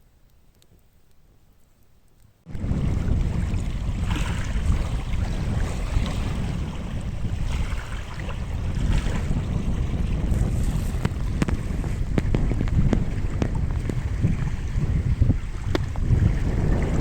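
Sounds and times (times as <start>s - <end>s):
wind buffeting microphone: 2.5s - 17.0s.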